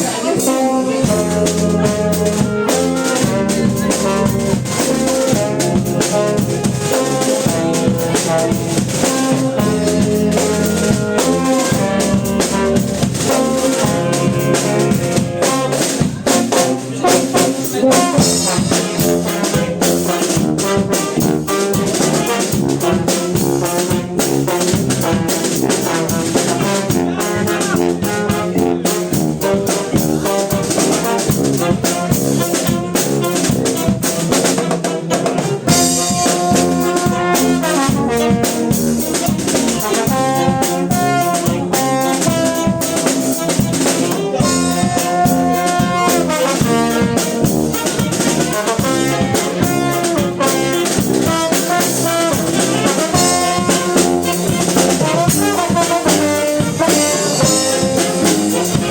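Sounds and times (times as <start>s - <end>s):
brass band playing: 0.0s - 58.9s
drum kit beat: 0.0s - 58.9s
long held brass notes: 0.0s - 58.9s.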